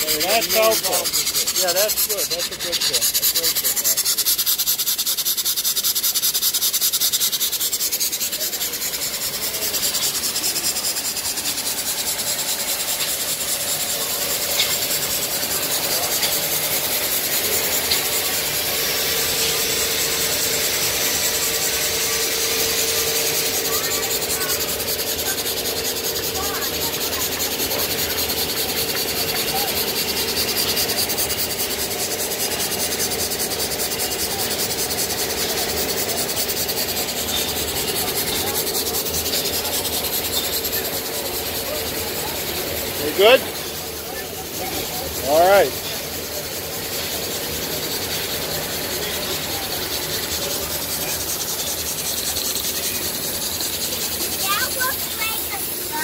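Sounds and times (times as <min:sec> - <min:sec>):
steam engines beating: 0:00.0 - 0:56.0
steam hissing: 0:00.0 - 0:56.0.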